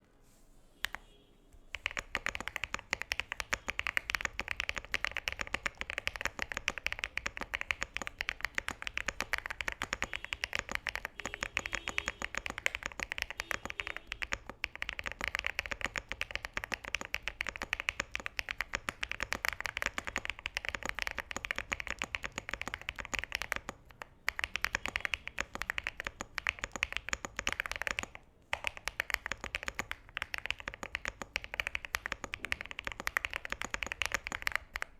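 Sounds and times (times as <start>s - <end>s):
mechanical keyboard typing: 1.7s - 34.9s.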